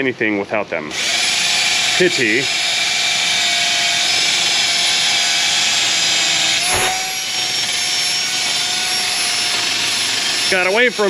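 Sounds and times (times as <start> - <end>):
drill spinning wire wheel: 0.9 - 11.0.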